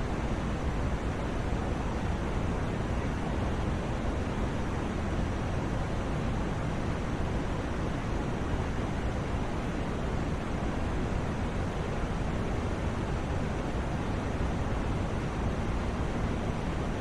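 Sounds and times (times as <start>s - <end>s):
white noise hiss: 0.0s - 17.0s.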